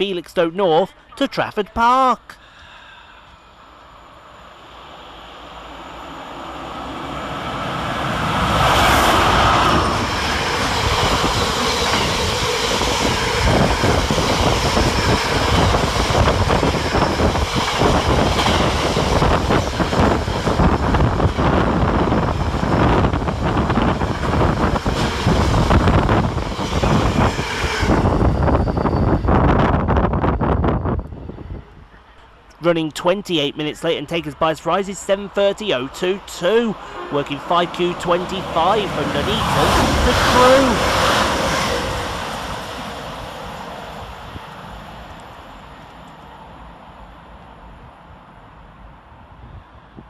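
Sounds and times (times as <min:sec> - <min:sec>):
electric locomotives passing: 0:02.2 - 0:50.0.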